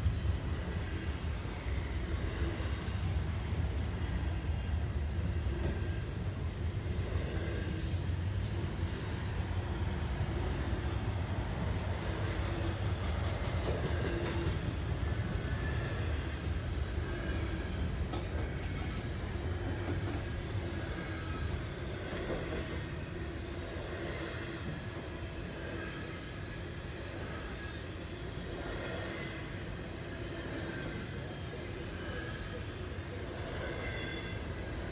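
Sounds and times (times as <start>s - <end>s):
freight train rumbling on rails: 0.0s - 34.9s.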